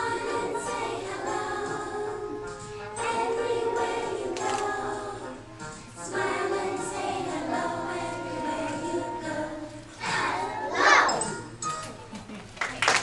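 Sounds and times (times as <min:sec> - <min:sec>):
young children singing: 0:00.0 - 0:11.4.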